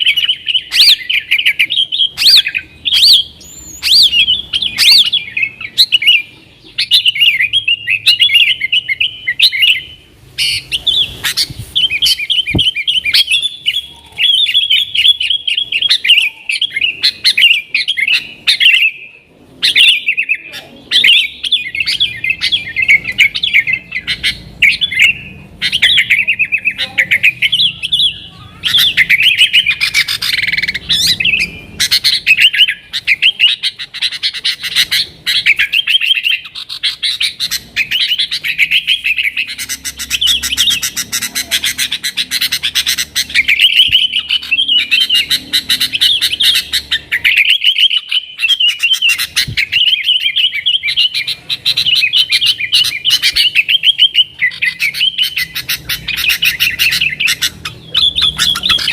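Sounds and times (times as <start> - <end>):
bulbul singing chattering notes: 0.0 - 58.9.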